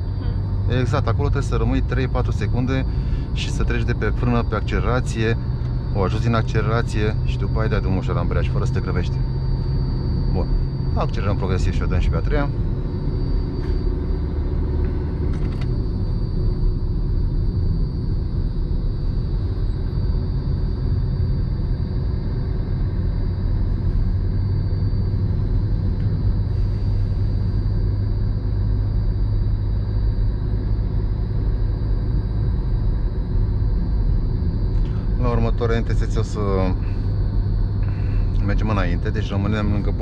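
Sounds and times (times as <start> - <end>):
car engine and road rumble: 0.0 - 40.0.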